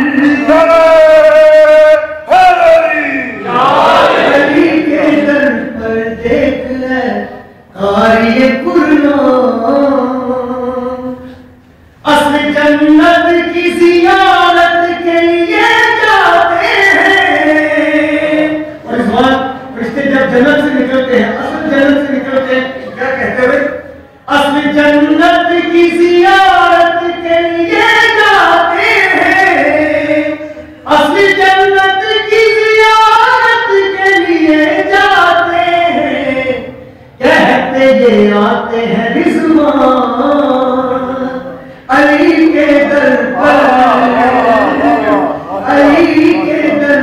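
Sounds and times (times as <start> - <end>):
man singing a recitation: 0.0 - 47.0.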